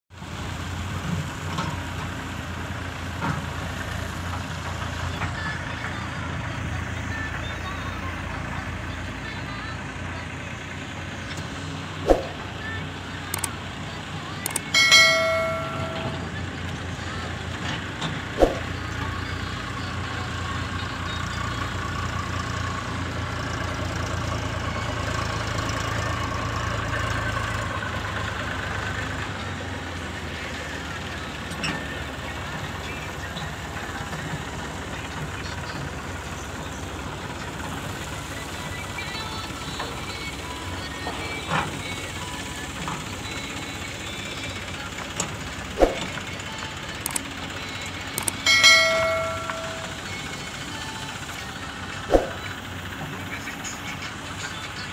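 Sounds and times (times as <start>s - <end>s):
distant diesel engines running: 0.2s - 54.9s.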